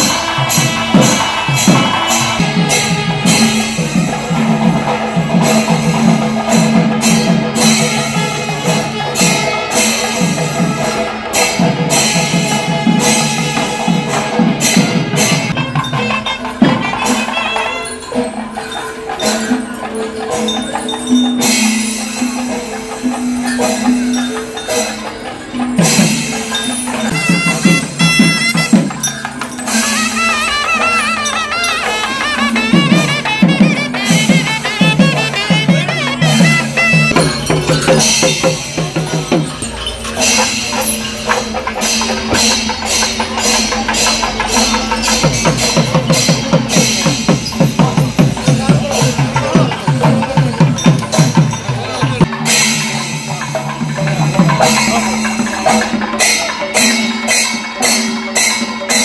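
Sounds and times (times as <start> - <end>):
held-note melody: 0.0 - 52.3
jingling cymbals: 0.0 - 59.0
percussion: 0.0 - 59.0.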